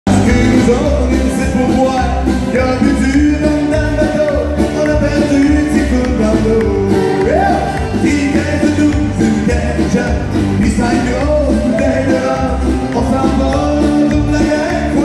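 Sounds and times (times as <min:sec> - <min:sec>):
man singing: 0:00.1 - 0:15.0
strummed acoustic guitars: 0:00.1 - 0:15.0.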